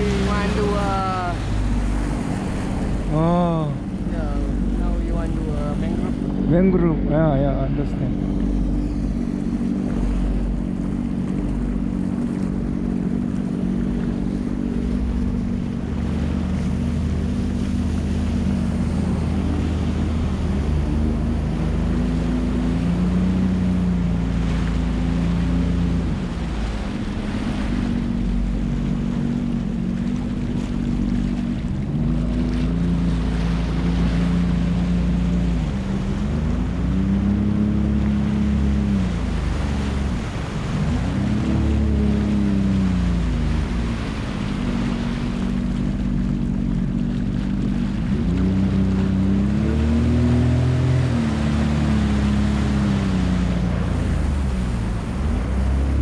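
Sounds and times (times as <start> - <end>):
jet ski engine running: 0.0 - 56.0
water rushing: 0.0 - 56.0.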